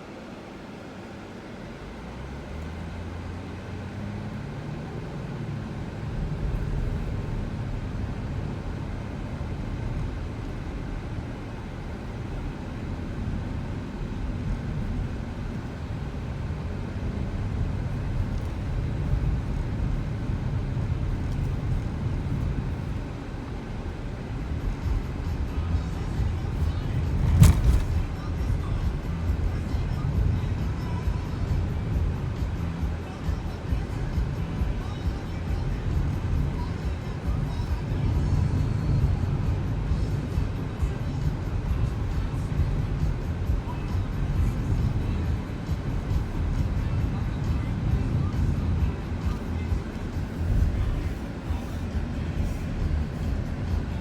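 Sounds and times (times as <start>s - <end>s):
road noise: 0.0s - 54.0s
car engine accelerating: 1.3s - 54.0s.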